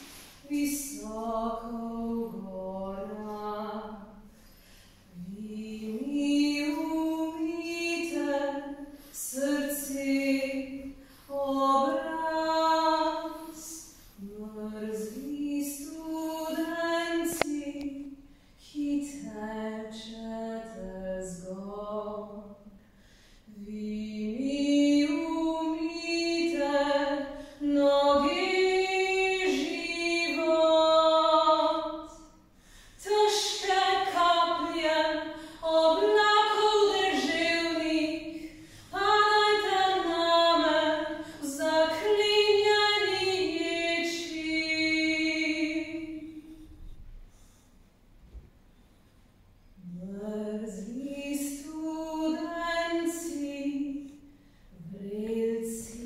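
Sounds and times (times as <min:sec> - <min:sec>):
woman singing unaccompanied: 0:00.0 - 0:04.2, 0:05.1 - 0:22.6, 0:23.5 - 0:32.3, 0:33.0 - 0:46.4, 0:49.8 - 0:54.2, 0:54.8 - 0:56.0.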